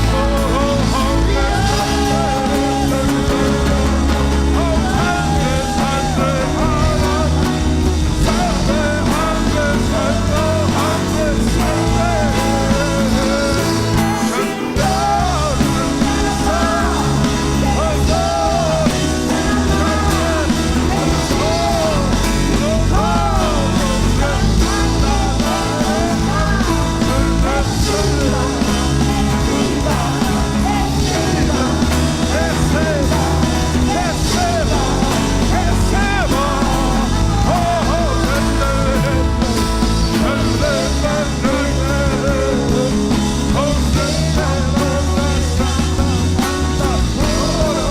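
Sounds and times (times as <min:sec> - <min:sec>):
band music with singer: 0:00.0 - 0:47.9.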